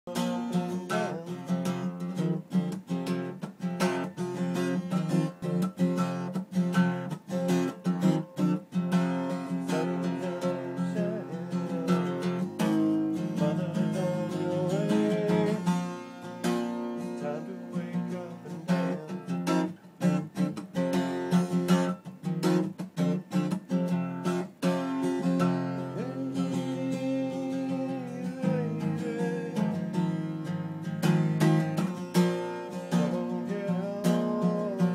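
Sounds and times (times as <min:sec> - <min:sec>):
acoustic guitar strumming: 0:00.1 - 0:34.9.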